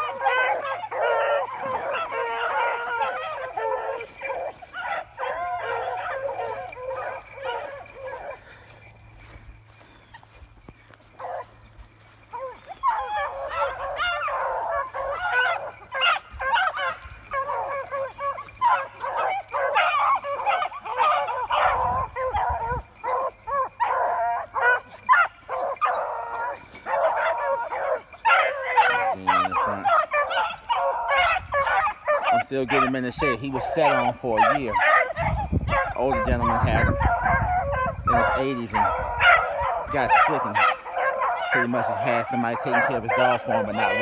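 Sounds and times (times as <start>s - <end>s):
dogs baying: 0.0s - 44.0s.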